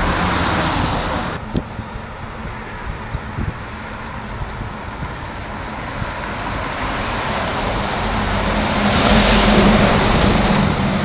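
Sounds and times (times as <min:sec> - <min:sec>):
cars and lorry driving: 0:00.0 - 0:11.0
tyre and engine noise: 0:00.0 - 0:11.0.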